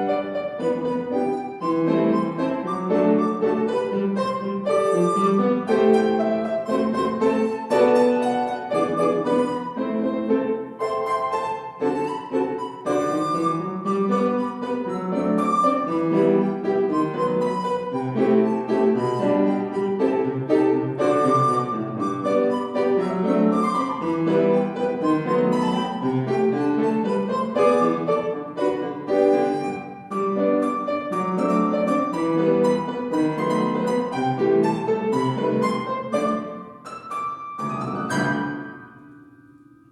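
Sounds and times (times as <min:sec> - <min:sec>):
piano piece: 0:00.0 - 0:39.9.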